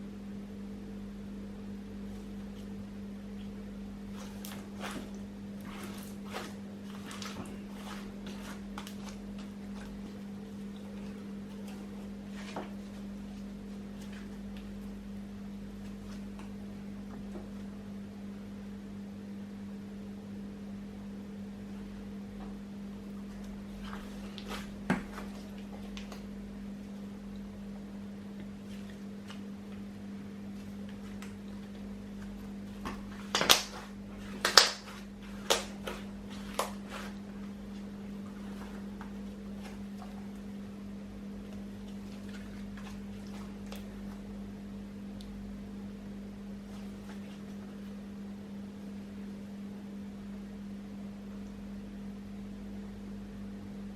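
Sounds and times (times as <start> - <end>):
electrical hum: 0.0 - 53.9.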